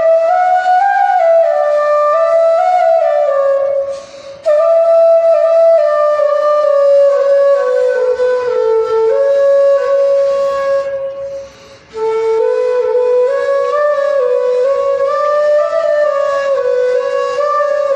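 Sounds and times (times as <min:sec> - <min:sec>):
flute playing slow melody: 0:00.0 - 0:17.9.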